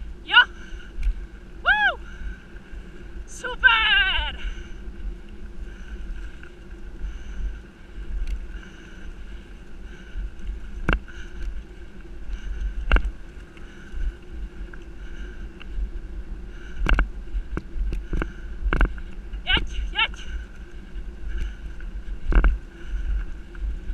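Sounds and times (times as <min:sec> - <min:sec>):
bike tyres rumbling on dirt: 0:00.0 - 0:19.5, 0:20.2 - 0:23.9
faint steady whine: 0:00.0 - 0:23.9.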